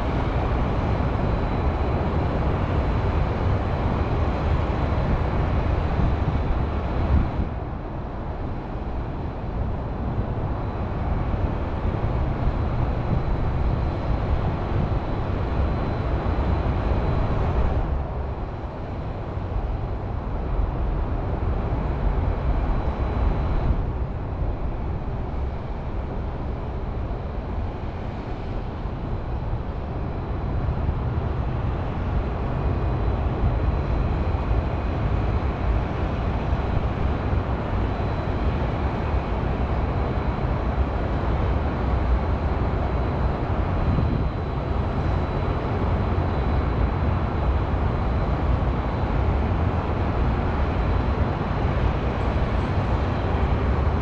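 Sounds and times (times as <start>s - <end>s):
faint high whine: 0.0s - 54.0s
highway traffic hum: 0.0s - 54.0s.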